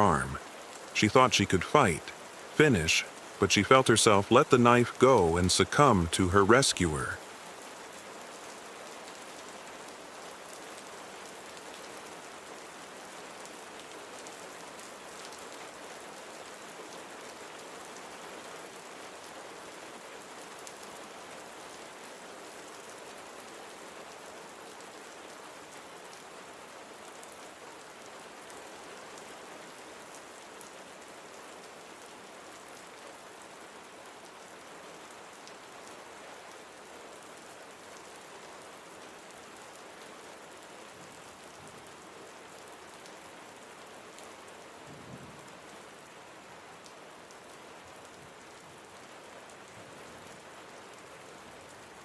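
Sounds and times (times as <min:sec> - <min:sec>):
rain pattering: 0:00.0 - 0:52.0.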